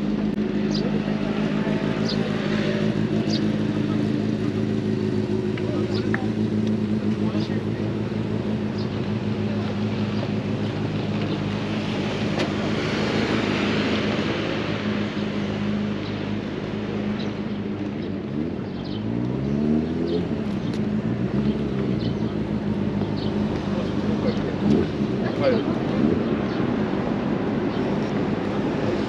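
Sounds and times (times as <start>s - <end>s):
engine accelerating: 0.0s - 29.0s
passing vehicles: 0.0s - 29.0s
vehicle engine humming: 0.0s - 29.0s.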